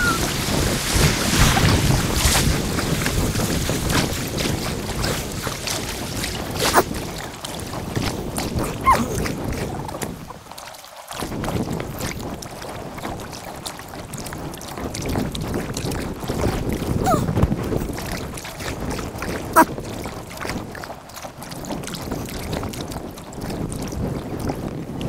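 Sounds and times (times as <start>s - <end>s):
kayak paddle strokes: 0.0s - 23.7s
water splashing: 0.0s - 25.0s
wind on microphone: 0.0s - 25.0s.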